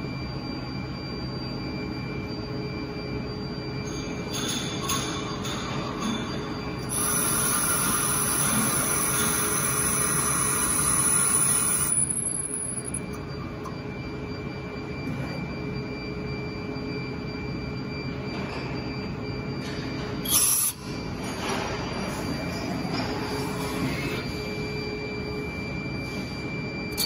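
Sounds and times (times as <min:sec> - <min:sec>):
lathe high-pitched whine: 0:00.0 - 0:27.0.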